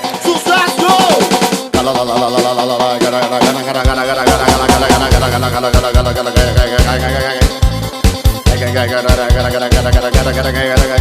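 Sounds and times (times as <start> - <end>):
electronic dance music: 0.0 - 11.0
deep bass: 1.8 - 11.0.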